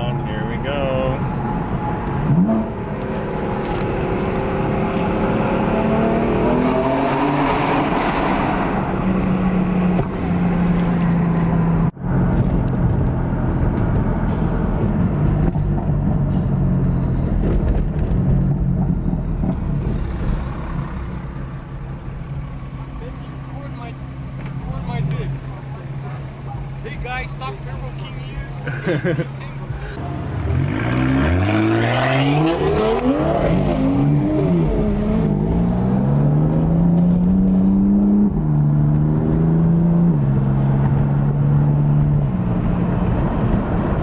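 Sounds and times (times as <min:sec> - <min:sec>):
car engine accelerating hard: 0:00.0 - 0:44.0.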